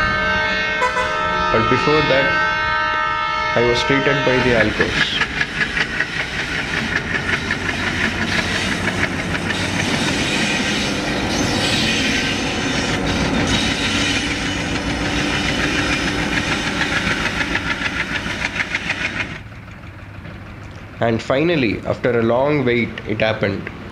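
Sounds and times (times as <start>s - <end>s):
train wheels clattering over rail joints: 4.6s - 23.8s.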